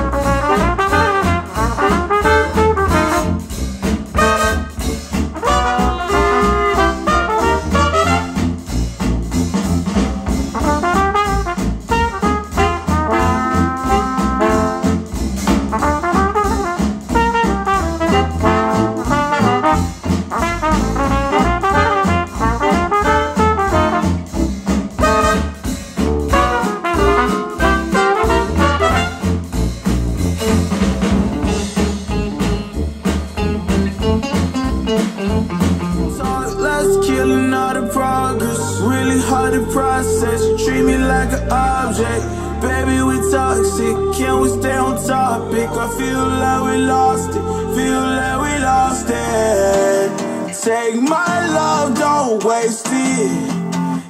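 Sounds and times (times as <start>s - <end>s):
jazz with brass horns: 0.0s - 52.2s.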